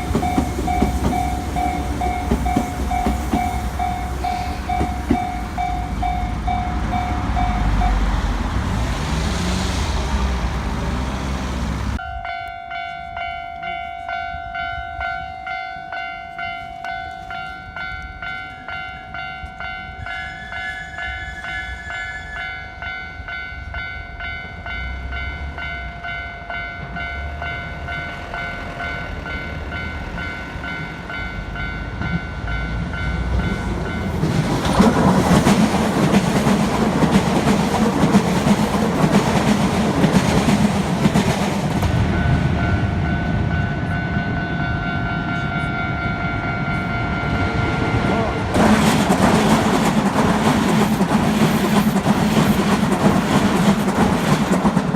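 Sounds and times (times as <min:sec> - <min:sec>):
railroad crossing bell ringing: 0:00.0 - 0:08.5, 0:12.0 - 0:51.2
train passing: 0:00.0 - 0:54.9.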